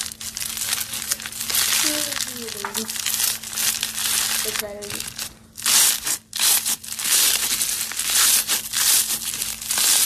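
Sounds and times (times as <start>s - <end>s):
slime crackling when squeezed: 0.0s - 10.0s.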